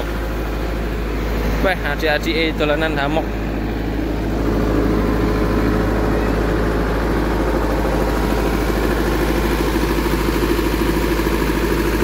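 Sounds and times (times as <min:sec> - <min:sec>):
diesel generator running: 0:00.0 - 0:12.0.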